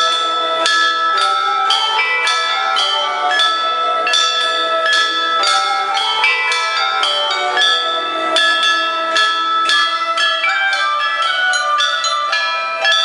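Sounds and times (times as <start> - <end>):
bronze chime bells melody: 0.0 - 13.0.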